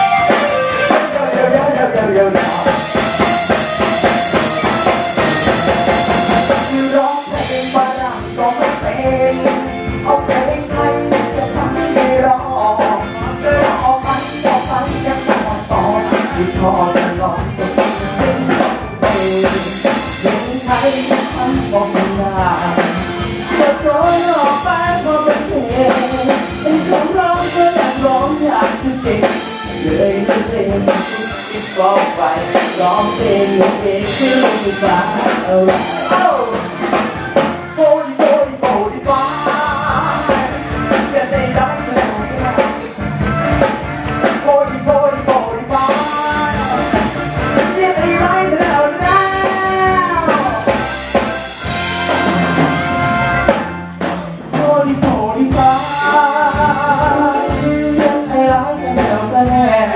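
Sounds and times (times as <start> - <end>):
man singing into microphone: 0.0 - 50.8, 54.2 - 59.9
steady drum beat: 0.0 - 59.9.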